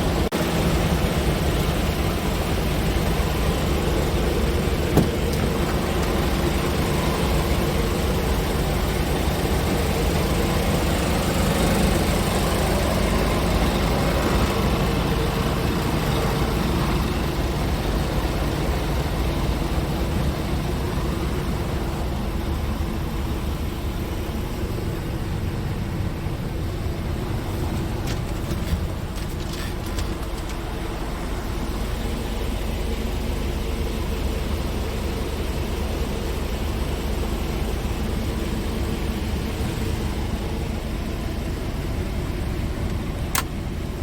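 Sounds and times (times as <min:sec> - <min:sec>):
diesel truck engine running: 0:00.0 - 0:44.0.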